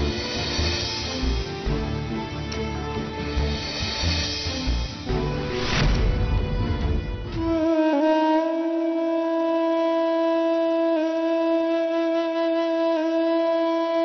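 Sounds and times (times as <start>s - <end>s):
wind instrument holding long note: 0.0s - 14.0s.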